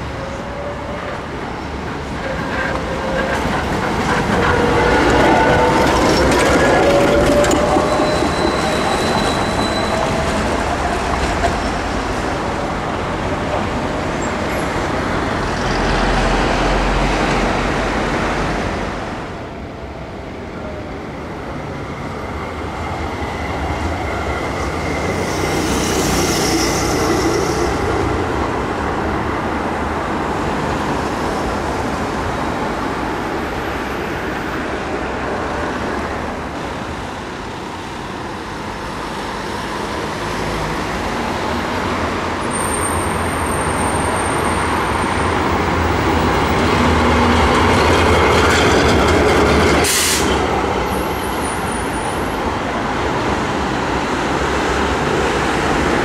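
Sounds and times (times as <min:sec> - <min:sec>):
street traffic: 0:00.0 - 0:56.0
tram passing: 0:00.0 - 0:56.0.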